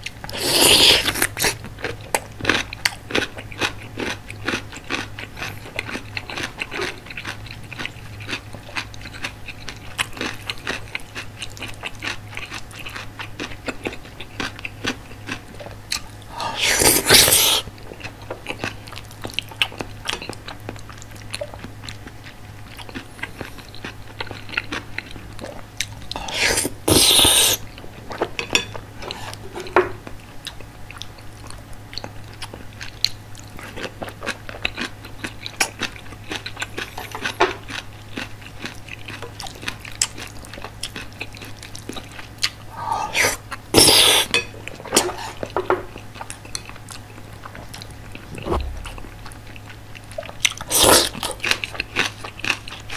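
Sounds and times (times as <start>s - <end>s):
person chewing food wetly: 0.0s - 52.9s.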